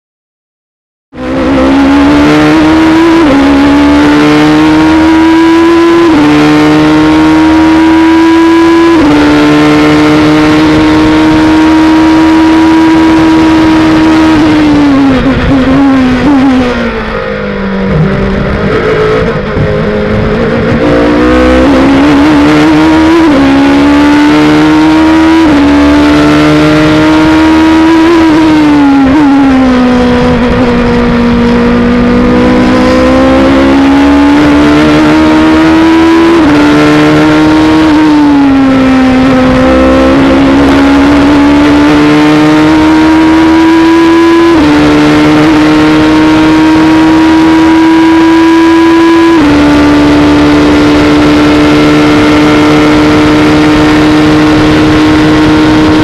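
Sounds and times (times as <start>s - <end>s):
race car engine revving: 1.1s - 56.0s.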